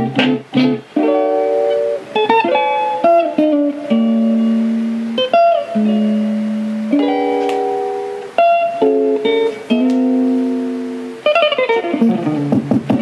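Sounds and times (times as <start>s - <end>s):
plucked guitar music over speakers: 0.0s - 13.0s.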